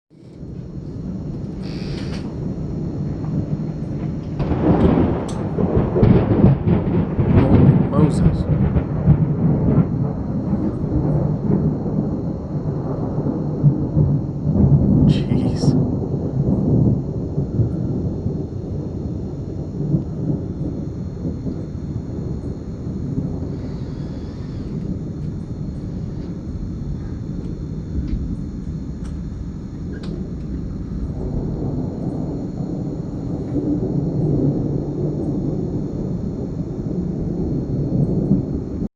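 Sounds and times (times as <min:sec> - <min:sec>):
low rumble of thunder: 0:00.1 - 0:38.9.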